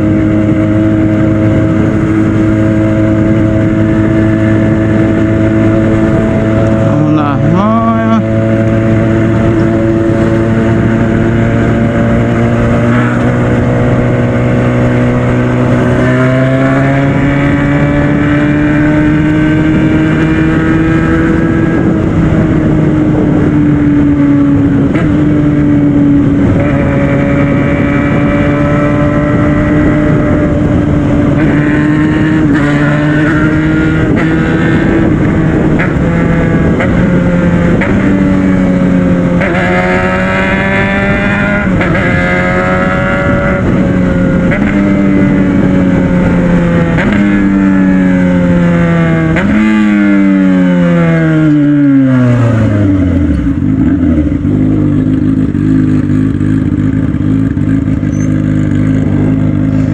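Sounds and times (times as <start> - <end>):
motorcycle engine running: 0.0 - 59.9
wind rush: 0.0 - 59.9.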